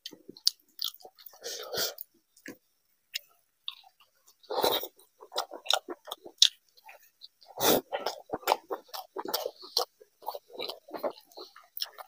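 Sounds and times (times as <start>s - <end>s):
man chewing wet mouth sounds: 0.0s - 12.0s.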